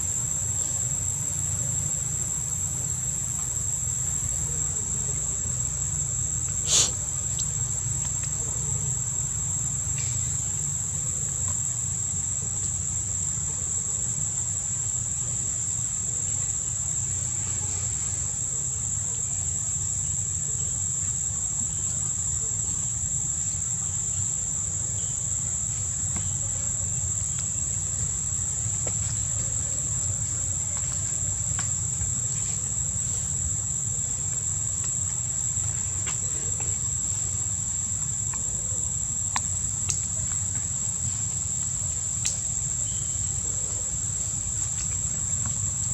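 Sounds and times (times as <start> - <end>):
insect chorus droning: 0.0 - 45.9.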